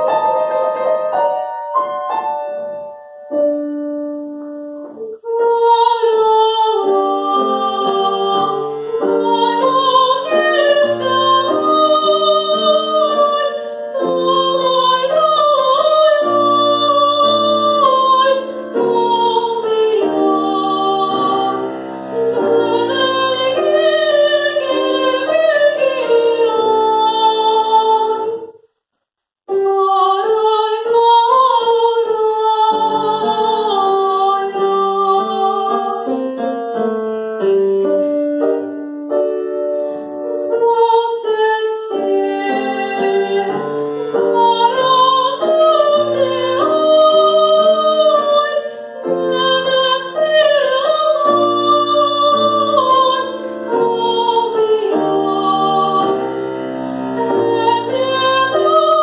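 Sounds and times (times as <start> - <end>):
piano accompaniment: 0.0 - 28.6, 29.5 - 59.0
woman singing opera: 4.9 - 28.5, 29.5 - 36.5, 40.2 - 56.4, 57.1 - 59.0.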